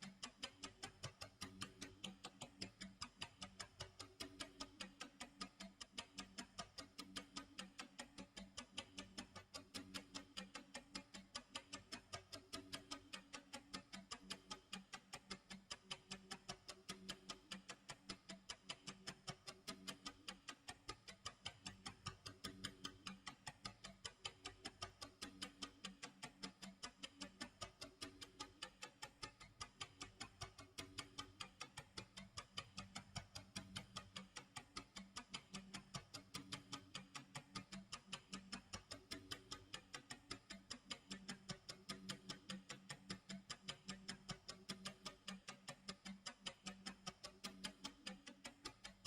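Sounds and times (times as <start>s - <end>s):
clock ticking: 0.0s - 49.0s.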